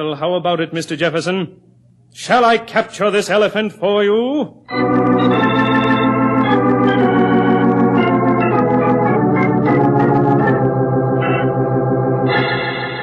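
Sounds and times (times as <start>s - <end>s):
organ chords: 0.7s - 13.0s.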